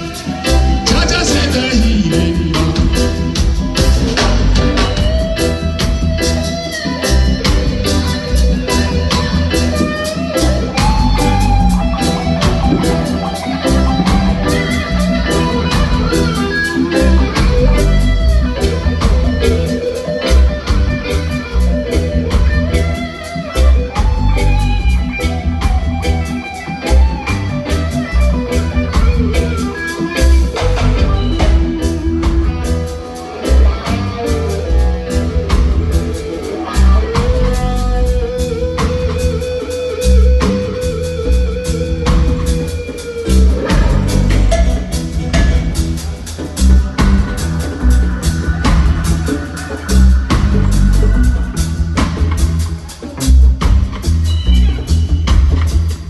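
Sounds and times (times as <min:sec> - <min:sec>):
pulsing bass: 0:00.0 - 0:26.3, 0:26.9 - 0:56.0
drums: 0:00.0 - 0:56.0
electric guitar lead lines: 0:00.0 - 0:56.0.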